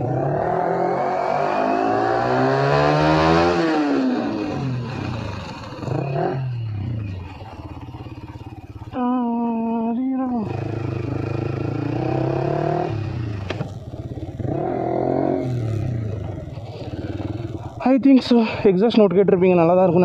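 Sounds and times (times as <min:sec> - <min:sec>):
motorcycle engine revving: 0:00.0 - 0:18.7.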